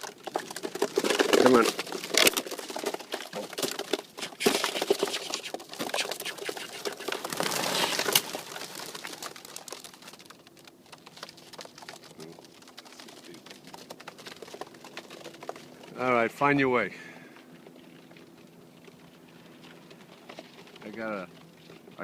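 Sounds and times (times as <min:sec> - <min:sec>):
pigeon wings clattering: 0:00.0 - 0:16.6, 0:17.3 - 0:22.0.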